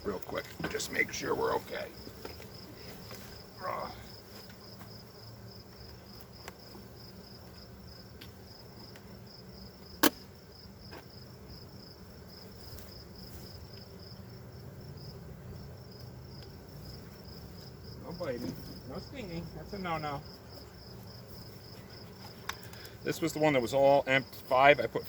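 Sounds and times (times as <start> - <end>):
bees humming: 0.0 - 25.0
high pulsing insect chirp: 0.0 - 25.0.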